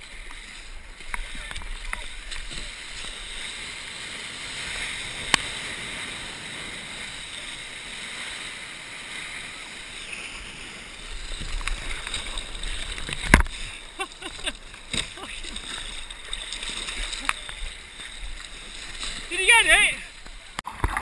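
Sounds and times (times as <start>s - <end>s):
whitewater hissing and rushing: 0.0s - 20.6s
rough splashing: 0.0s - 21.0s.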